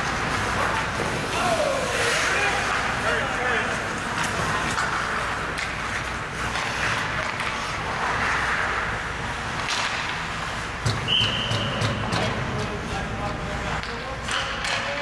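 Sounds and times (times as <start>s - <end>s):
hockey sticks and puck clicks: 0.0s - 15.0s
skate blades scraping ice: 0.0s - 15.0s.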